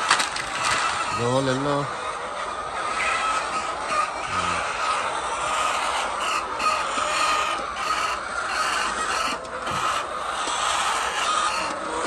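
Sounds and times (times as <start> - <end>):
flock of chickens clucking: 0.0 - 12.0.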